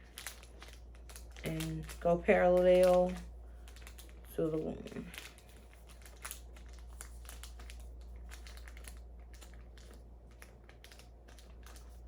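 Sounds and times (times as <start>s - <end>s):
bandage crackling as peeled: 0.0s - 12.0s.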